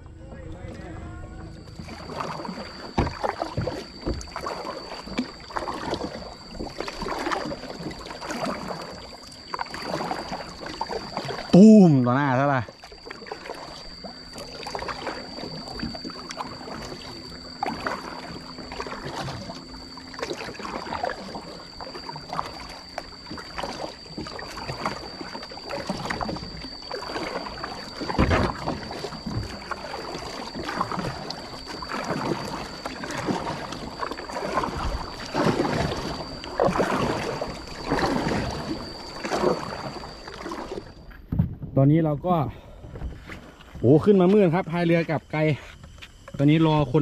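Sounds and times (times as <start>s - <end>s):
paddle strokes splashing water: 0.0s - 41.6s, 42.7s - 47.0s.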